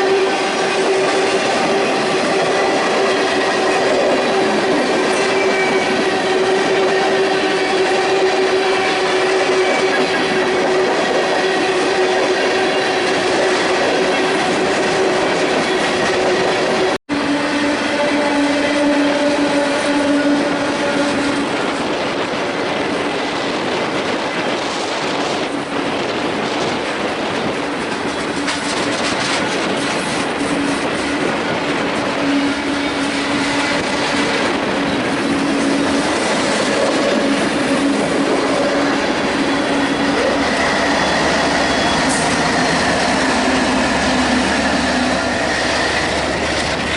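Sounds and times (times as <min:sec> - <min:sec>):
train wheels clattering on rails: 0:00.0 - 0:17.0, 0:17.7 - 0:46.9.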